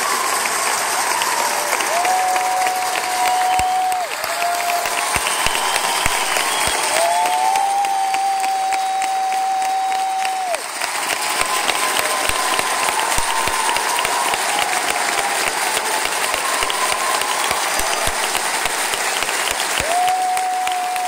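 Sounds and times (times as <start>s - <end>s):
long steady whistle: 0.0s - 10.5s, 11.3s - 21.0s
audience clapping: 0.0s - 21.0s.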